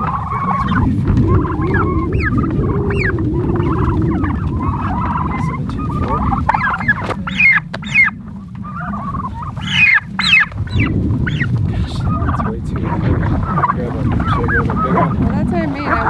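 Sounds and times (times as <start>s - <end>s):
low rumble: 0.0s - 16.0s
turkeys yelping and squawking: 0.0s - 16.0s.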